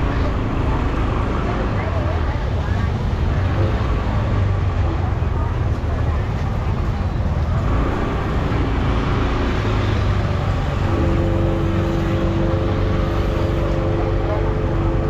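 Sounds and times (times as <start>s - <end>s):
pitched engine hum: 0.0s - 15.0s
road traffic rumble: 0.0s - 15.0s.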